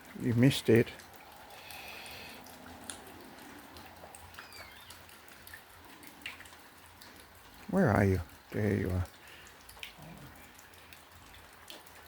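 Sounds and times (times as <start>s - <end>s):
light rain drips: 0.0s - 12.0s.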